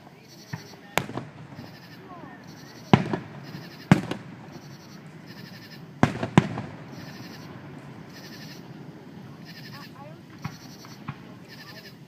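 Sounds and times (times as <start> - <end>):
firework booms with echo: 0.5 - 11.8.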